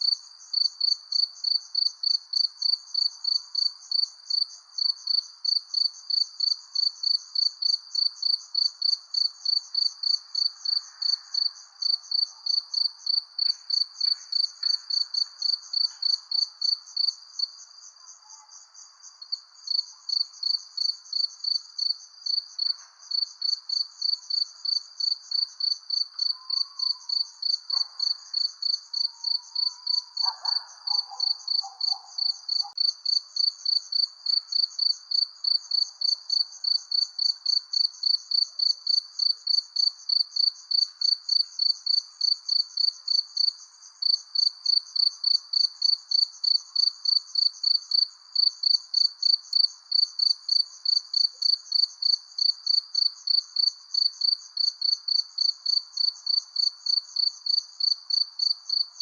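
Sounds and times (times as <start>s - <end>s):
crickets chirping: 0.0s - 59.0s
faint night background: 0.0s - 59.0s.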